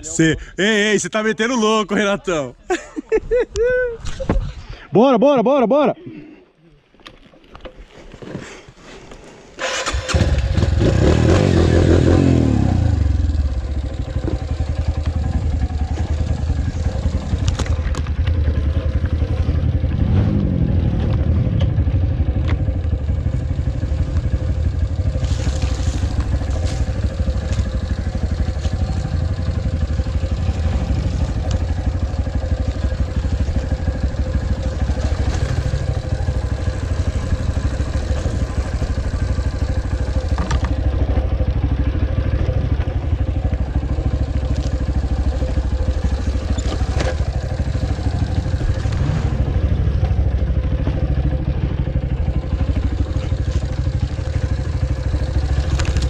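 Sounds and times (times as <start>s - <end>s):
dirt bike engine revving: 9.6s - 56.0s.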